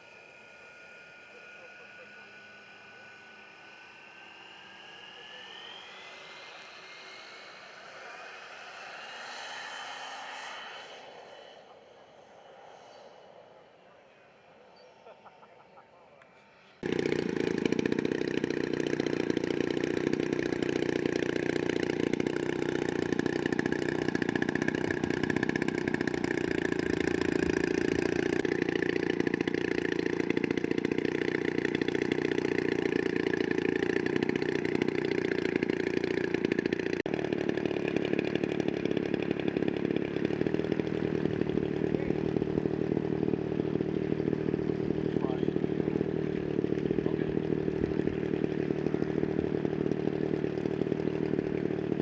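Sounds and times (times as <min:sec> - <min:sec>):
model airplane engine running: 0:00.0 - 0:52.0.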